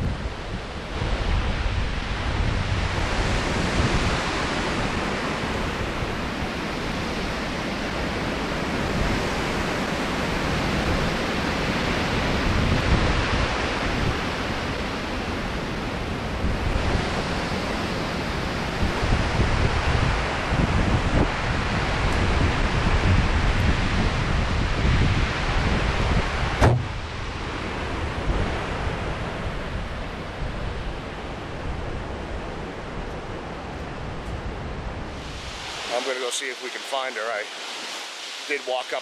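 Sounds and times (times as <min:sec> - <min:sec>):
wind buffeting microphone: 0:00.0 - 0:35.9
strong wind rushing: 0:00.0 - 0:38.6.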